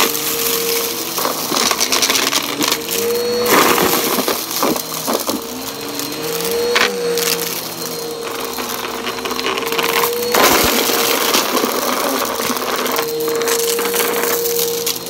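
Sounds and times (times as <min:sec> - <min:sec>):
debris crackling in vacuum: 0:00.0 - 0:15.0
vacuum cleaner whining on carpet: 0:00.0 - 0:15.0.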